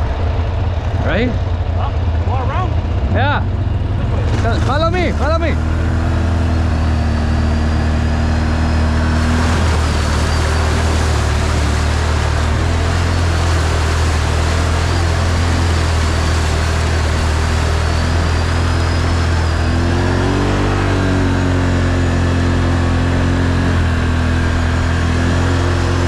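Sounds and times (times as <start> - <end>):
atv engine running: 0.0 - 26.0
broad rushing noise: 0.0 - 26.0.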